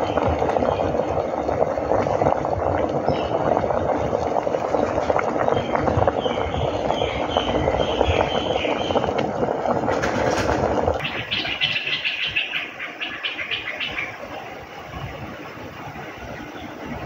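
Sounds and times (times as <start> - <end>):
water boiling and bubbling: 0.0 - 17.0.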